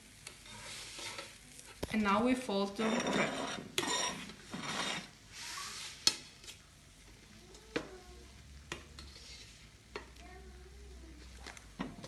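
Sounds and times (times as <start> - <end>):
soft sizzle: 0.0 - 12.0.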